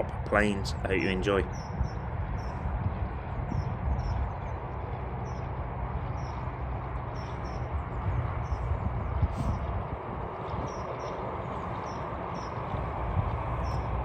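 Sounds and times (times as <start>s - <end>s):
low rumble: 0.0s - 14.0s
small birds chirping: 0.0s - 14.0s.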